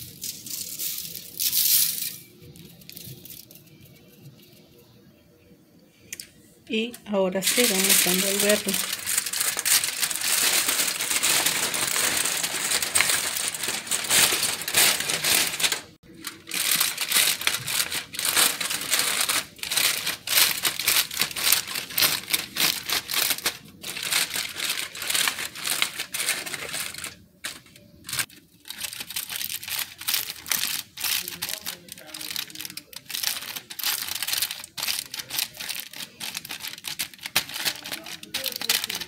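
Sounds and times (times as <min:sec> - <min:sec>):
aluminium foil crinkling: 0:00.0 - 0:04.6, 0:06.7 - 0:39.0.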